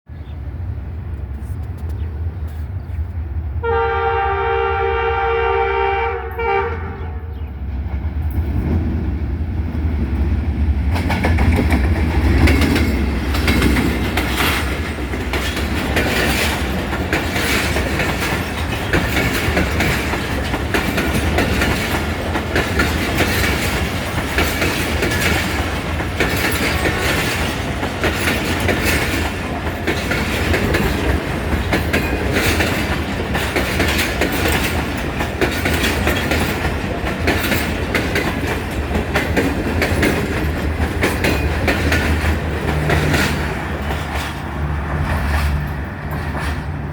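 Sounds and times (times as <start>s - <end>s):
locomotive deep rumble: 6.7s - 46.9s
train wheels clickety-clack: 7.7s - 46.9s.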